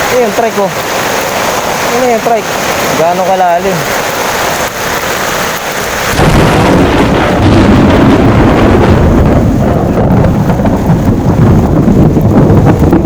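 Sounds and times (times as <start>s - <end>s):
heavy rain hiss: 0.0s - 13.0s
wind buffeting microphone: 0.0s - 13.0s.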